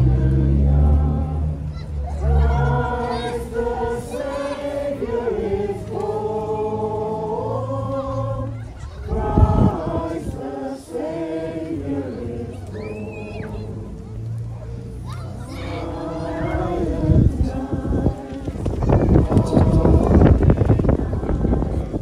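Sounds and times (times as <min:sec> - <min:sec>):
group singing a carol: 0:00.0 - 0:22.0.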